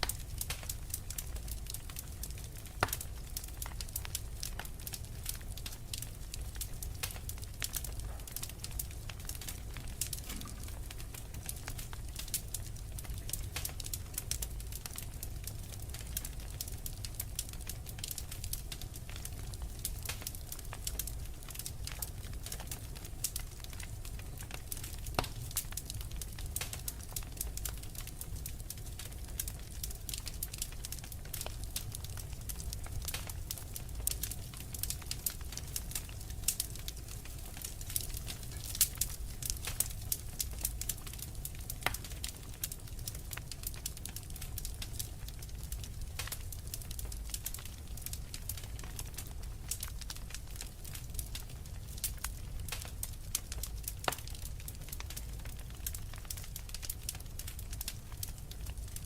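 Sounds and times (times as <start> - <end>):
fire pops and snaps: 0.0 - 59.0
low rumble of fire: 0.0 - 59.0
wood fire crackling: 0.0 - 59.0.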